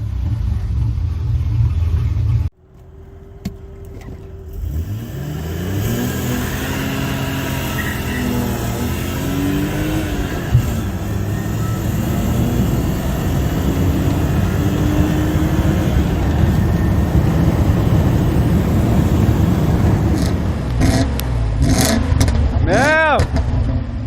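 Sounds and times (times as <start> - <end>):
car engine accelerating hard: 0.0 - 22.8.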